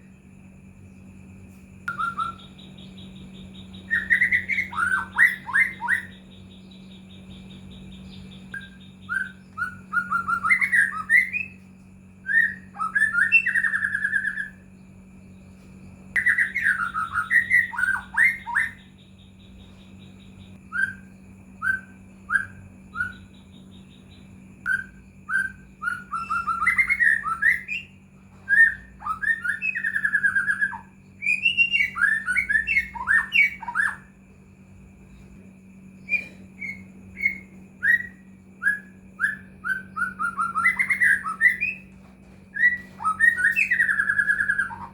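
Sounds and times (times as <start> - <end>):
songbird whistling song: 0.0 - 44.9
steady low hum: 0.0 - 44.9.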